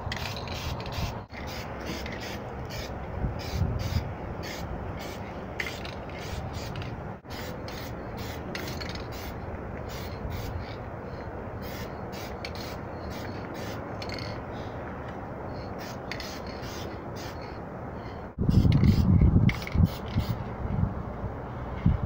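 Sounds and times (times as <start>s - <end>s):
steady background hiss: 0.0s - 18.4s.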